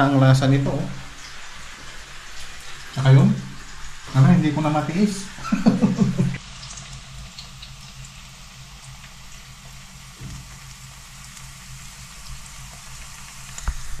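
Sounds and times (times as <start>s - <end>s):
mushrooms sizzling in a pan: 0.0s - 14.0s.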